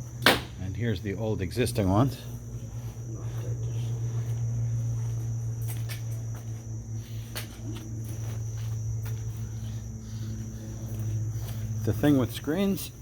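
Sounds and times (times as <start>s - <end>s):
crickets trilling: 0.0s - 13.0s
low steady hum: 0.0s - 13.0s.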